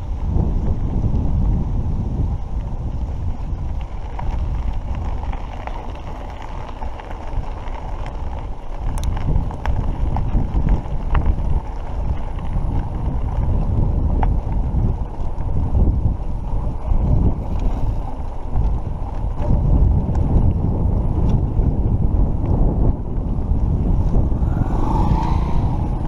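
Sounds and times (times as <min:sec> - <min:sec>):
tyres rumbling on dirt: 0:00.0 - 0:26.0
wind buffeting microphone: 0:00.0 - 0:26.0
bike clicks and rattles: 0:02.4 - 0:24.2.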